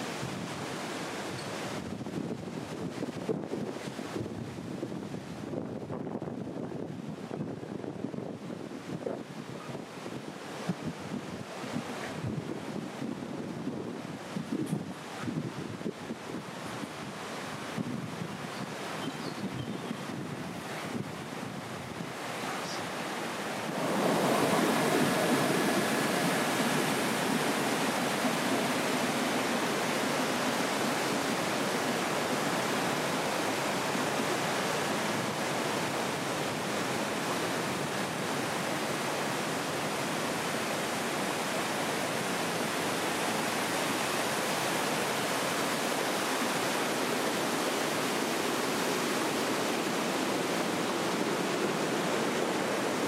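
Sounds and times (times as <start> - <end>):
fast-flowing stream water: 0.0 - 53.0.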